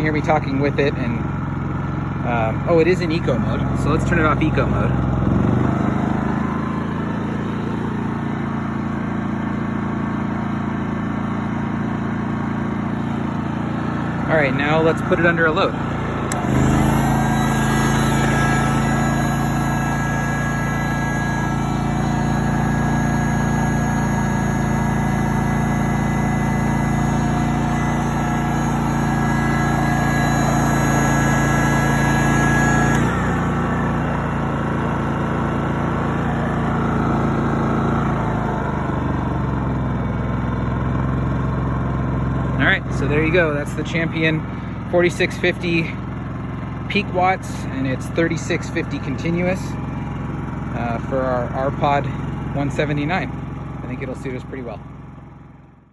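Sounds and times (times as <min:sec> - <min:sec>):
generator engine running: 0:00.0 - 0:55.9.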